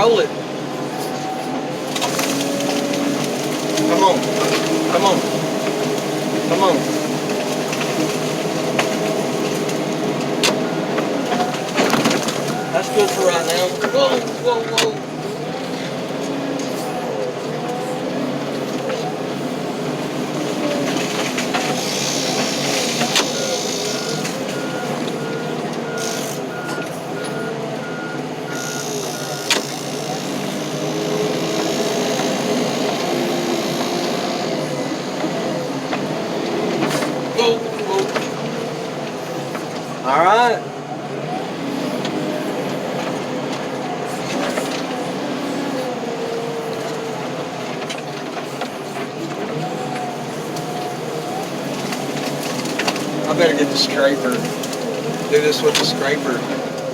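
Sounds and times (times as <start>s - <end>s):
heavy machine engine revving: 0.0s - 56.9s.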